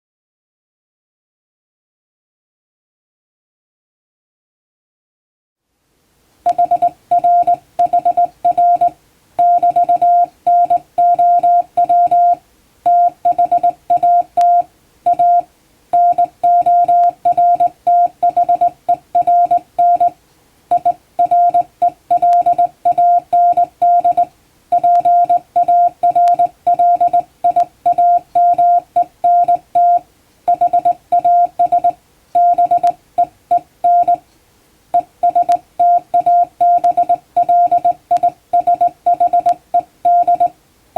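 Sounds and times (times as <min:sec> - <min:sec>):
morse code beeps: 0:06.5 - 0:34.2, 0:35.0 - 0:40.5.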